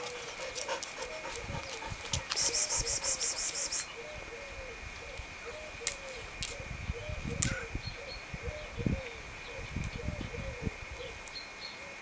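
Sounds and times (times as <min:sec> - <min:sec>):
faint cooing calls: 0:00.0 - 0:12.0.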